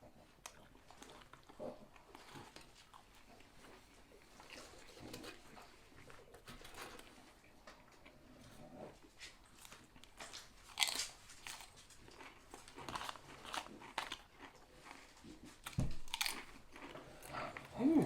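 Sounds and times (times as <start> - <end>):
chewing and biting sandwich: 0.0 - 18.0.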